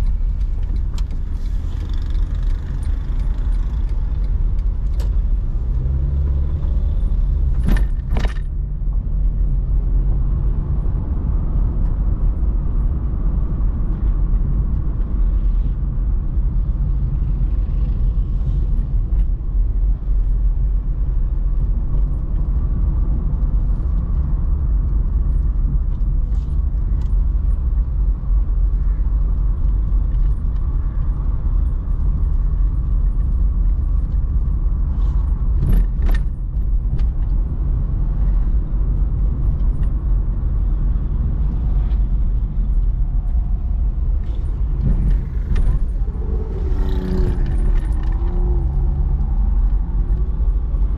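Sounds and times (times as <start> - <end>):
car engine and tyres rumbling: 0.0 - 50.9.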